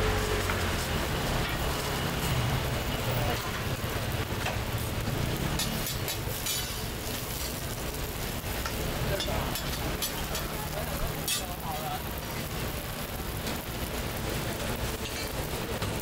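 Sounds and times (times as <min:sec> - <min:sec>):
pancakes sizzling on griddle: 0:00.0 - 0:16.0.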